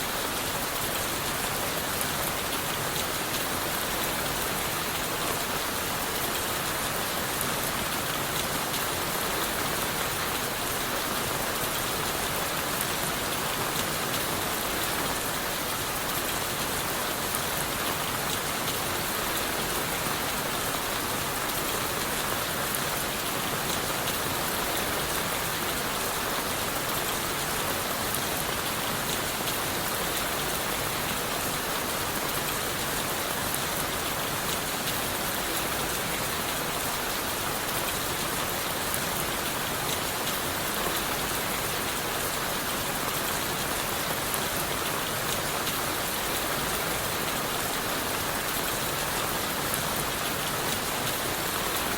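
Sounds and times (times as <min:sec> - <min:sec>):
rain falling on leaves: 0:00.0 - 0:51.9.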